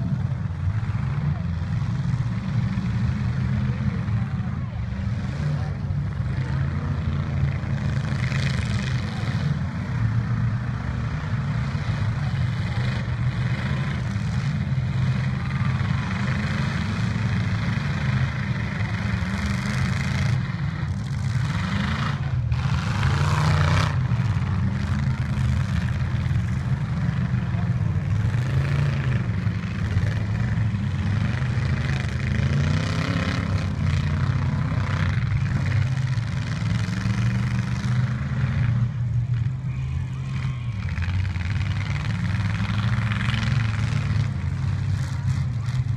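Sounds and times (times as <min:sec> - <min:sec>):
truck engines revving: 0:00.0 - 0:45.9.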